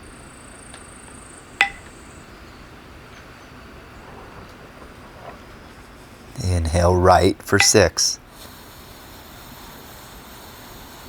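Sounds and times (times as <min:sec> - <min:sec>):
faint room noise hiss: 0:00.0 - 0:11.0.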